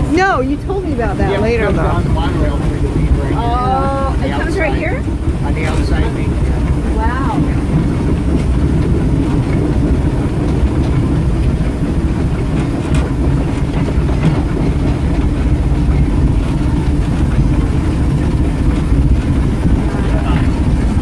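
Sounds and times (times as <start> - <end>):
steam locomotive wheels rumbling: 0.0 - 21.0.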